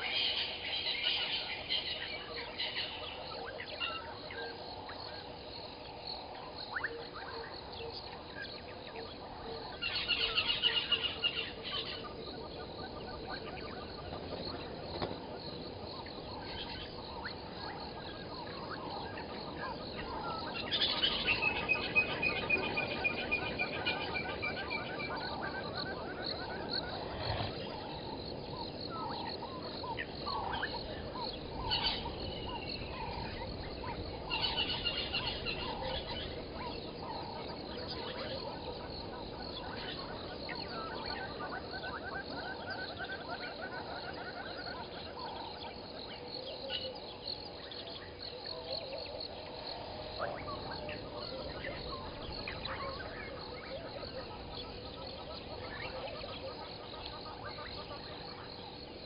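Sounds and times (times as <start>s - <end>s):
frogs calling: 0.0s - 59.0s.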